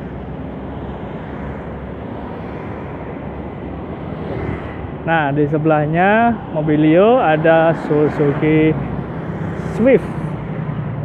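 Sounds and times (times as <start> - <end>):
cars passing: 0.0 - 11.0
motorcycles passing: 0.0 - 11.0.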